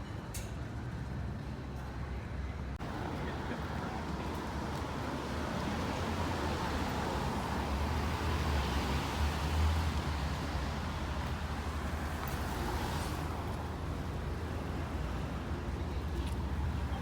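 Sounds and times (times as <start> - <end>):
vehicle engine rumble: 0.9 - 17.0.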